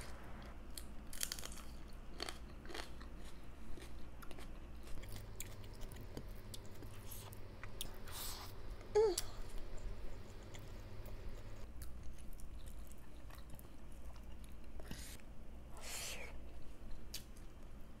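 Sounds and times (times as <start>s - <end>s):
person chewing food: 0.4s - 15.2s.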